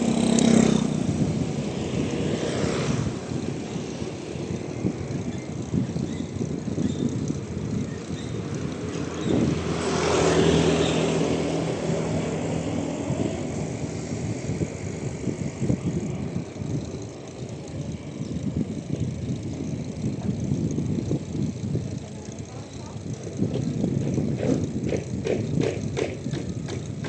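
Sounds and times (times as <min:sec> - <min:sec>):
motor vehicle passing: 0:00.0 - 0:27.0
wind and road noise rumble: 0:00.0 - 0:27.0.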